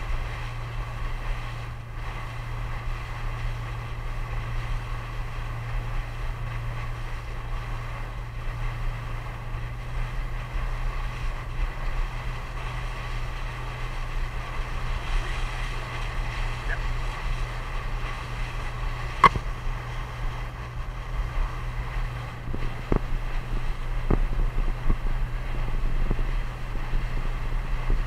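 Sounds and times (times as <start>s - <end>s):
boat engine humming: 0.0s - 28.0s
water rushing in wake: 0.0s - 28.0s.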